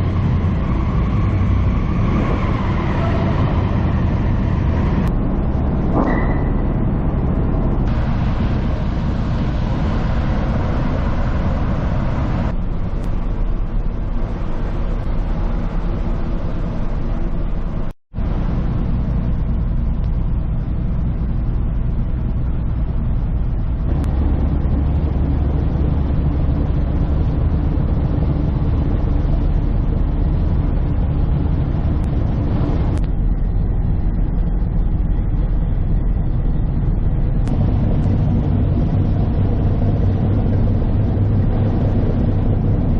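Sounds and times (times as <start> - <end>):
engine rumble: 0.0 - 42.9.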